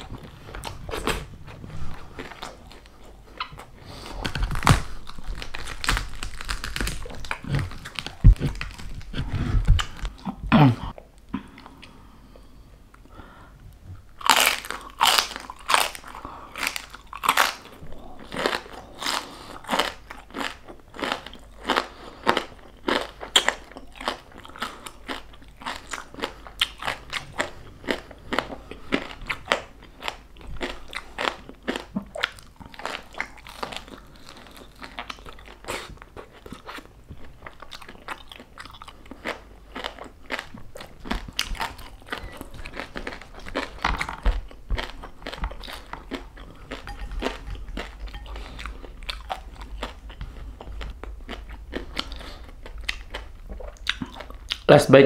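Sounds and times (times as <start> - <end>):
crunching and chewing food: 0.0 - 12.0, 13.7 - 54.8.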